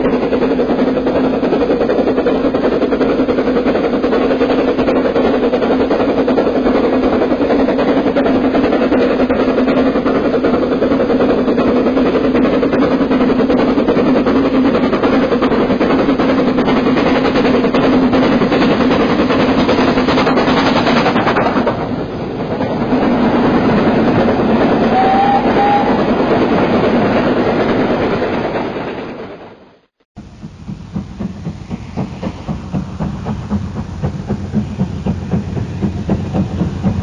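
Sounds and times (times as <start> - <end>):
train clattering on rails: 0.0 - 37.0.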